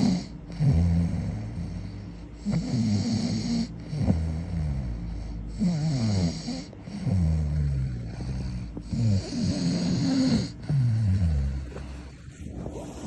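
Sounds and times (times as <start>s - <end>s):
person snoring: 0.0s - 13.0s.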